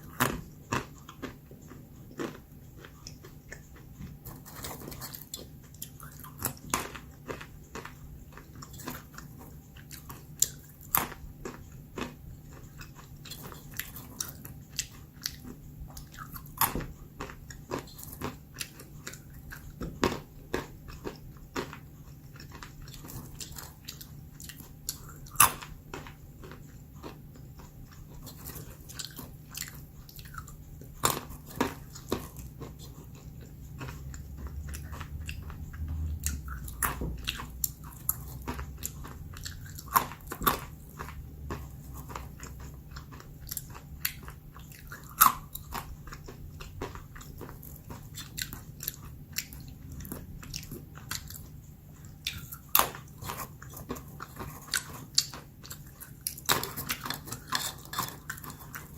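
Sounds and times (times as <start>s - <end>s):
almonds crunching: 0.0s - 58.9s.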